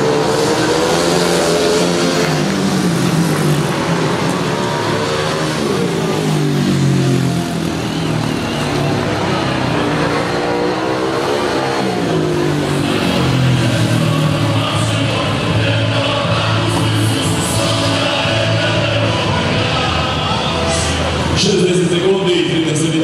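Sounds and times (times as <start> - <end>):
motorcycles racing: 0.0 - 23.0.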